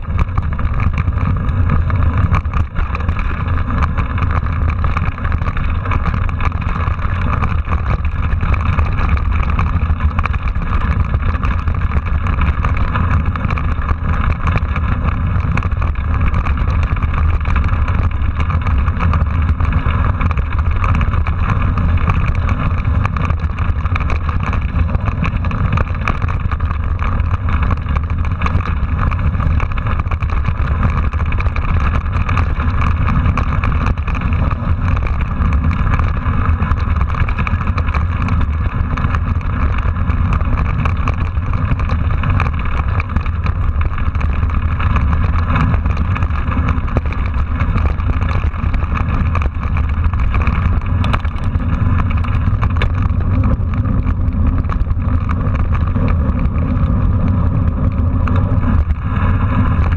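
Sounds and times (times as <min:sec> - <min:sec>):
bike rattle: 0:00.0 - 0:59.9
tyre noise on rough ground: 0:00.0 - 0:59.9
wind rumble on microphone: 0:00.0 - 0:59.9.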